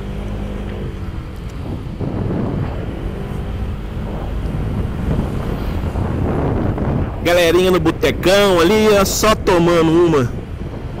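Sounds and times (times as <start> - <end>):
city traffic: 0.0 - 11.0
wind noise on microphone: 0.0 - 11.0.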